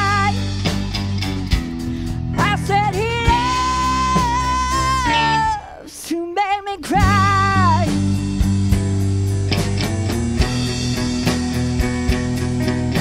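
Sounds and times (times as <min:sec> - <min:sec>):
electric guitar lead: 0:00.0 - 0:13.0
live rock band playing: 0:00.0 - 0:13.0.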